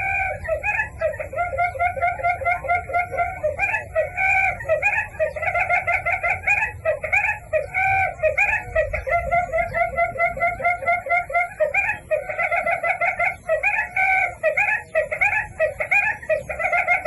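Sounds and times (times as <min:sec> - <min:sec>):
bird calling in rapid notes: 0:00.0 - 0:17.0.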